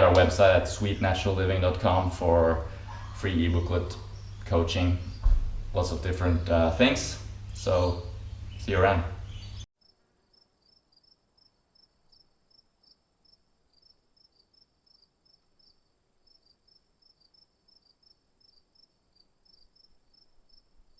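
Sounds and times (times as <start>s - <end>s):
insect chirping: 2.6s - 5.8s, 7.2s - 20.9s.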